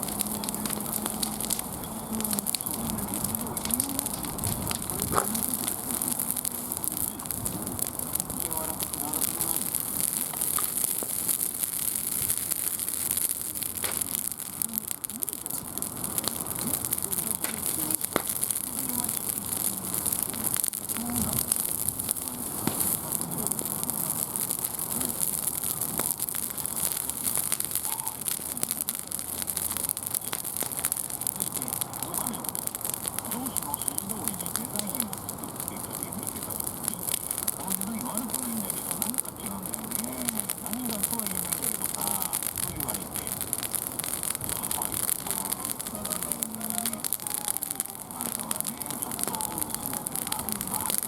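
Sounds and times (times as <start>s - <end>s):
fire crackles and pops: 0.0s - 51.0s
wood fire hissing: 0.0s - 51.0s.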